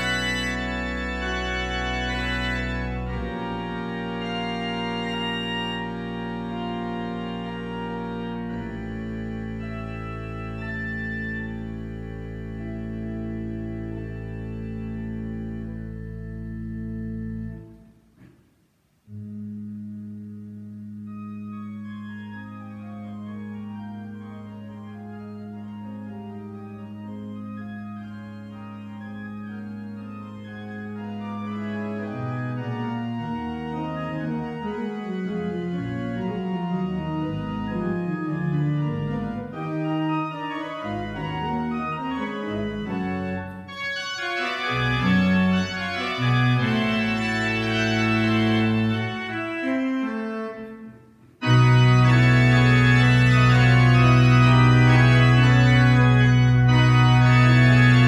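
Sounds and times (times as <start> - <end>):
organ playing: 0.0 - 18.0, 19.0 - 58.0.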